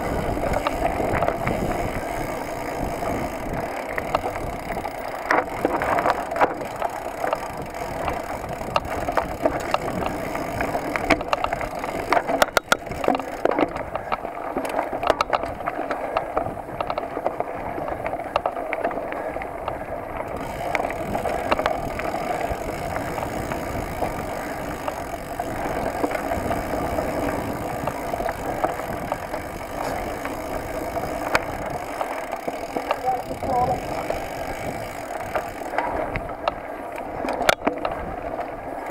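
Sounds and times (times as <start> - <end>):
bike rattling over bumps: 0.0 - 38.9
bike tyres on dirt: 0.0 - 38.9.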